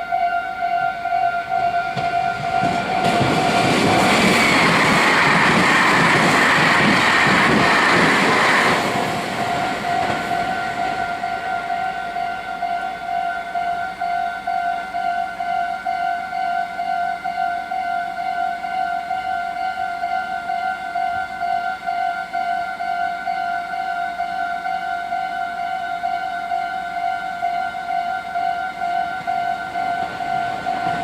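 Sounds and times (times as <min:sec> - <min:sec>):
crossing bell dinging: 0:00.0 - 0:31.0
train passing: 0:00.0 - 0:31.0.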